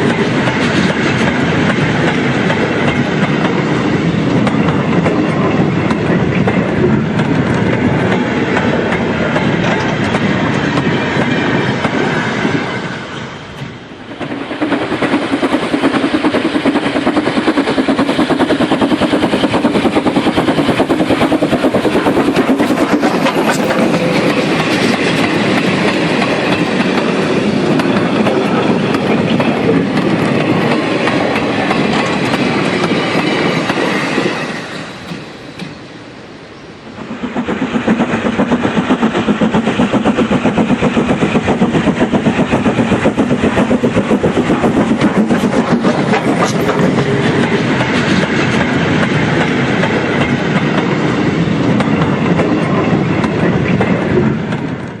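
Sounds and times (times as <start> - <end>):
model train wheels clicking: 0.0 - 12.7, 14.1 - 35.8, 37.0 - 55.0.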